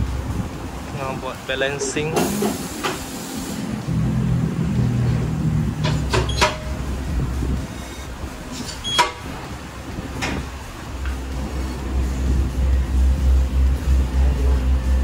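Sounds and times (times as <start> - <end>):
wheel balancer motor hum: 2.5 - 15.0.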